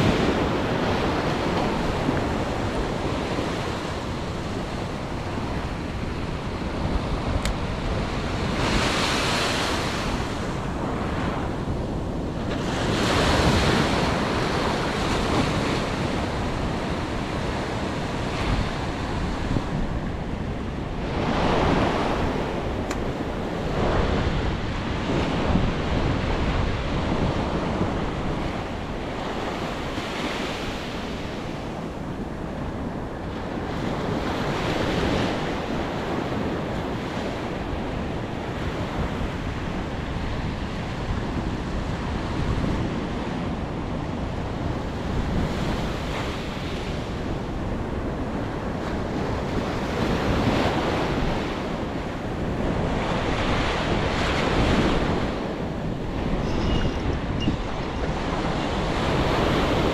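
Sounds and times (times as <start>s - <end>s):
ocean surf on beach: 0.0s - 59.9s
wind buffeting microphone: 0.0s - 59.9s.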